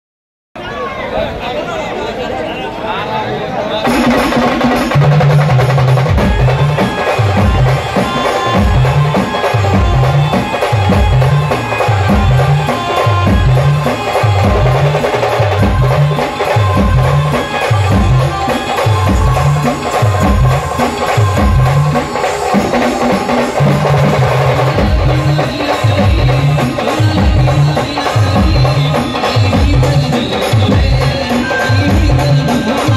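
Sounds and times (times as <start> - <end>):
band playing folk tune: 3.8 - 32.9
heavy drum beat: 3.8 - 32.9.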